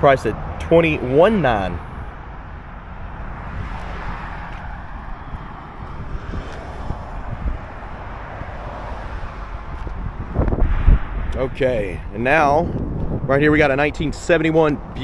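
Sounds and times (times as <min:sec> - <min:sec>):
low microphone rumble: 0:00.0 - 0:15.0.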